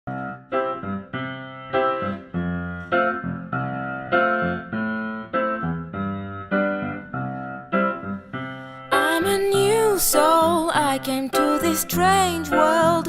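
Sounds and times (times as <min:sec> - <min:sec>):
piano chords: 0:00.1 - 0:13.0.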